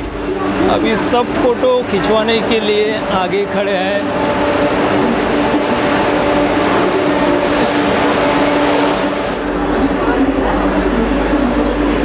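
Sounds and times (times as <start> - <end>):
electric train humming: 0.0 - 12.0
even rushing noise: 0.0 - 12.0.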